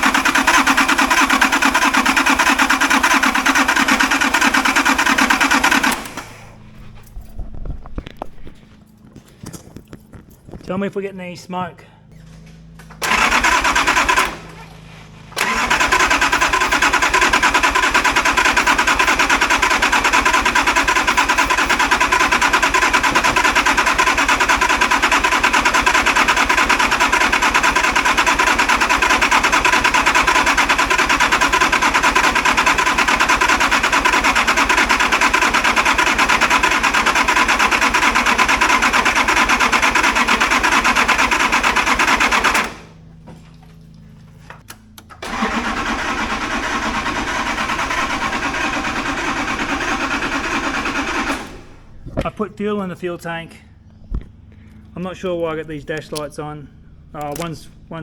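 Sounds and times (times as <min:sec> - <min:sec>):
diesel engine cranking on starter: 0:00.0 - 0:08.6, 0:12.1 - 0:43.2, 0:43.9 - 0:52.0, 0:54.5 - 0:57.9.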